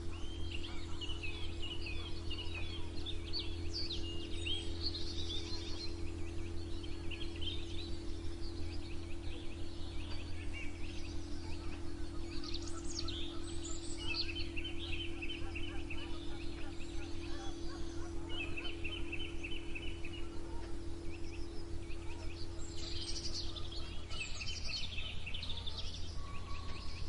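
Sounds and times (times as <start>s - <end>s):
songbirds chirping and trilling: 0.0s - 27.0s
steady low hum: 0.0s - 27.0s.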